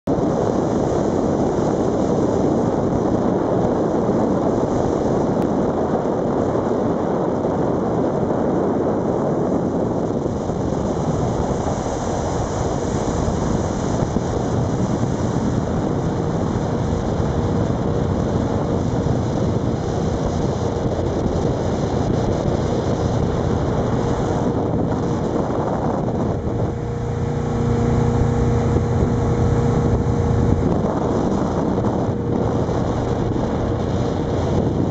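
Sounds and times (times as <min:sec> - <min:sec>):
boat engine droning: 0:00.1 - 0:34.9
water rushing past boat hull: 0:00.1 - 0:34.9
wind buffeting microphone: 0:00.1 - 0:34.9.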